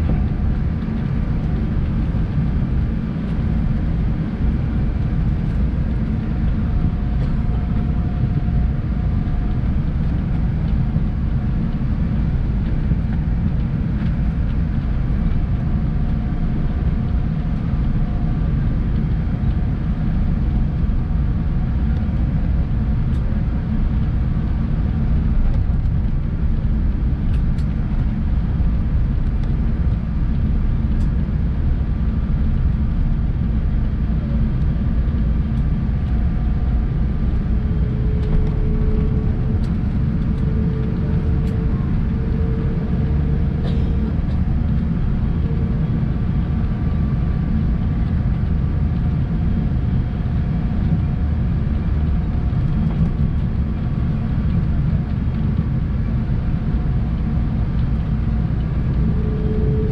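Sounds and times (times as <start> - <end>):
airliner cabin rumble: 0.0 - 59.9
faint steady whine: 0.0 - 59.9.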